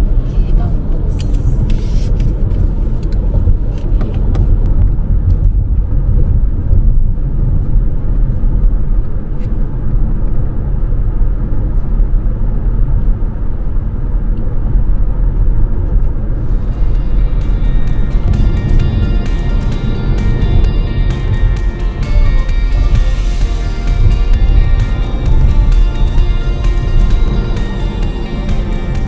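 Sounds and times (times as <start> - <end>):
car interior road rumble: 0.0 - 29.0.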